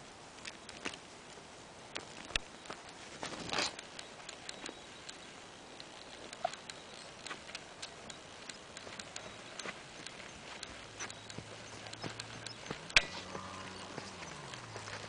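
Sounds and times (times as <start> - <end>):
horse hooves trotting on dirt: 0.4 - 15.0.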